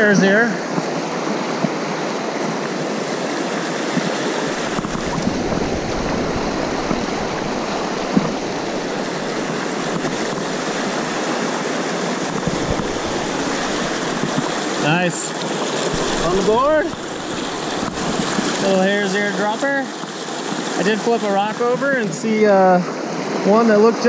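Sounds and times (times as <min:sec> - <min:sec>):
whitewater rushing over rocks: 0:00.0 - 0:24.0.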